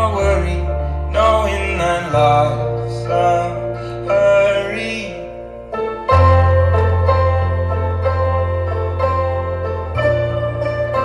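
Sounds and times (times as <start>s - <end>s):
song through speaker: 0.0s - 11.0s.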